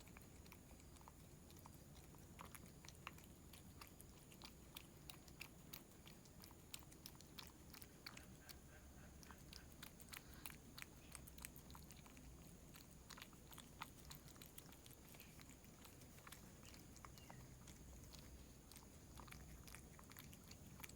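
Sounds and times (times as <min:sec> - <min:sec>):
cat chewing food: 0:00.0 - 0:20.9.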